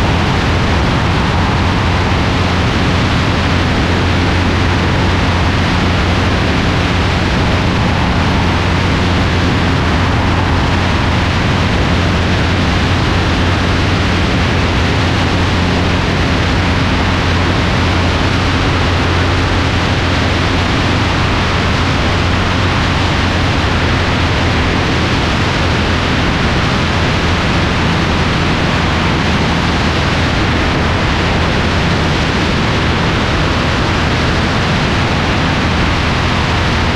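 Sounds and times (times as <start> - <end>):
aircraft engine and propeller drone: 0.0 - 36.9
airflow rushing: 0.0 - 36.9.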